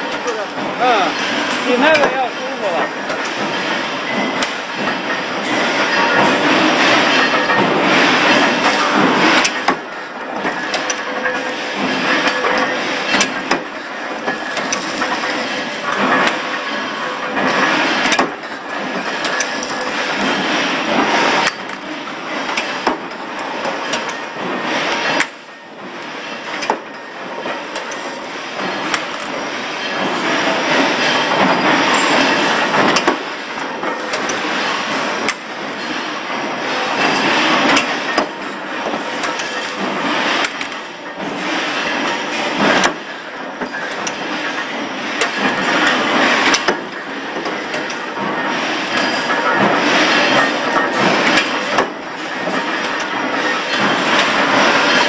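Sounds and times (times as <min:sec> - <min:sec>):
forging press mechanical din: 0:00.0 - 0:55.0
sharp metallic clanks: 0:00.0 - 0:55.0.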